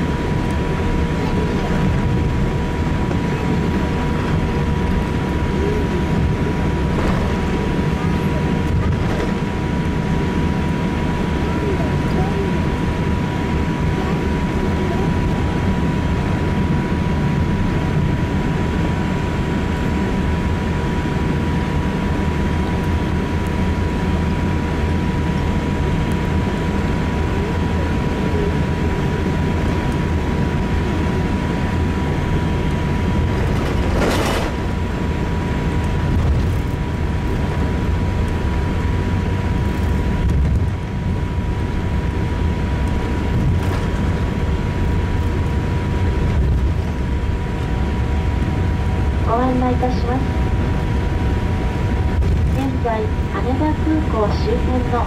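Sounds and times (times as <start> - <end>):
airliner cabin low rumble: 0.0 - 55.0
thin steady whine: 0.0 - 55.0.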